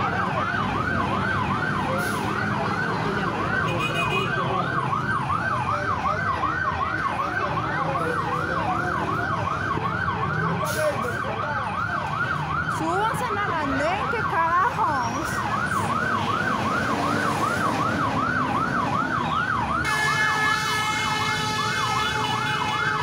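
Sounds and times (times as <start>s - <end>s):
siren yelping: 0.0s - 23.0s.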